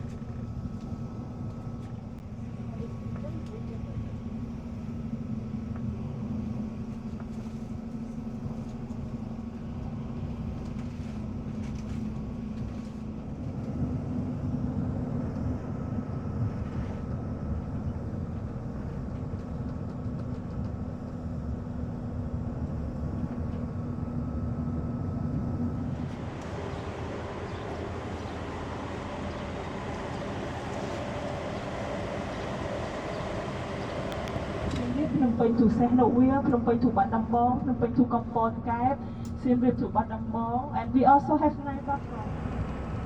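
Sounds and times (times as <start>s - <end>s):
bus engine drone: 0.0s - 43.0s
constant low hum: 0.0s - 43.0s
road rumble: 0.0s - 43.0s.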